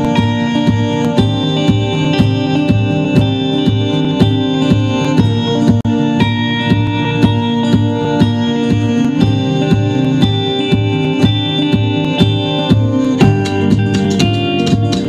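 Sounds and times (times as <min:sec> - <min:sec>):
keyboard chords: 0:00.0 - 0:15.0
steady drum beat: 0:00.0 - 0:15.0.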